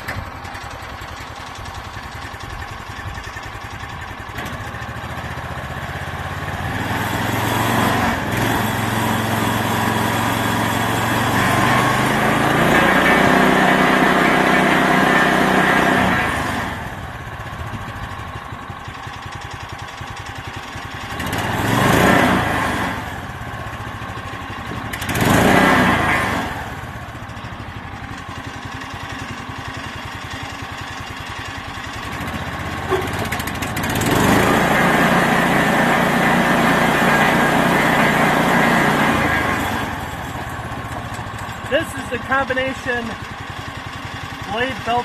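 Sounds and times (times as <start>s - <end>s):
small engine idling and revving: 0.0s - 45.0s.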